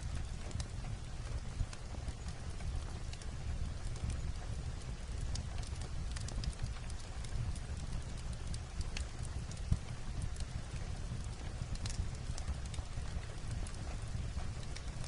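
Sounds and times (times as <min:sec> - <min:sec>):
fireplace crackling: 0:00.0 - 0:15.0
light rain on a roof: 0:00.0 - 0:15.0.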